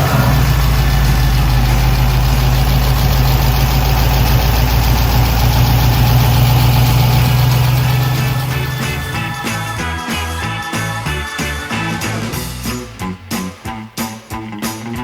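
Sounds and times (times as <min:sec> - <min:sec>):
car engine idling: 0:00.0 - 0:12.7.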